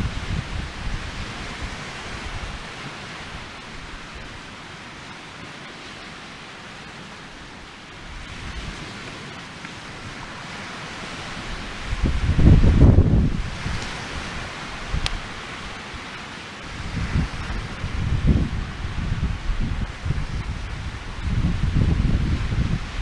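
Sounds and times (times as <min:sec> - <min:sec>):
wind buffeting microphone: 0:00.0 - 0:04.4, 0:08.0 - 0:23.0.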